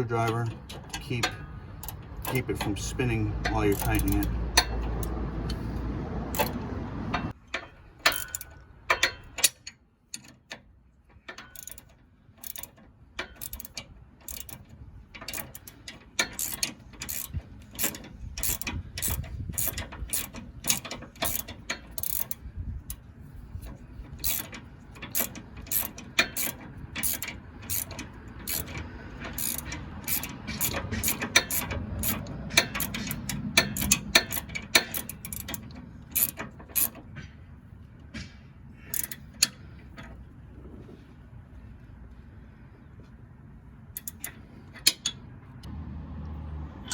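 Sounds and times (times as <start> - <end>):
ratchet wrench clicking: 0.1 - 10.6, 11.2 - 37.0, 38.8 - 39.6, 44.0 - 45.2.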